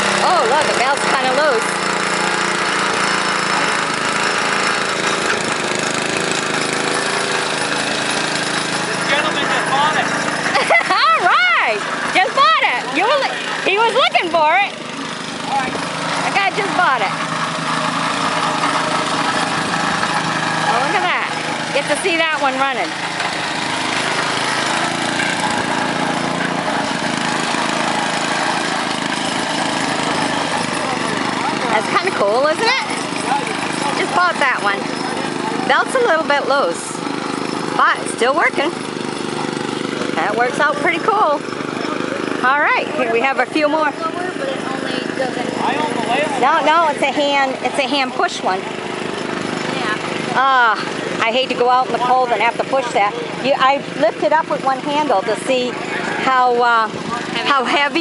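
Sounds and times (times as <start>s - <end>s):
small gasoline engine knocking: 0.0s - 58.0s.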